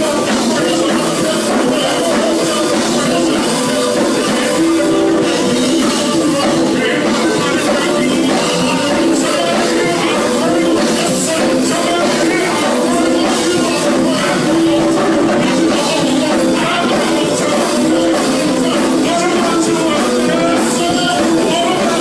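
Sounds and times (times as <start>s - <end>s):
gospel band with singing: 0.0s - 22.0s.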